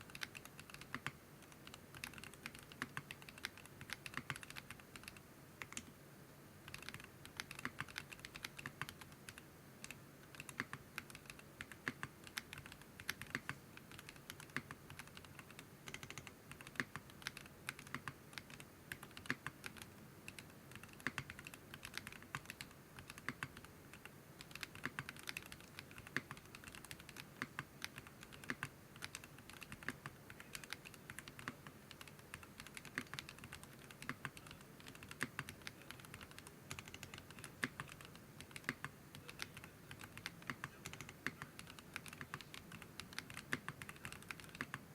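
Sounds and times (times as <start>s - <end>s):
fast typing on mechanical keyboard: 0.0s - 5.8s, 6.7s - 44.8s.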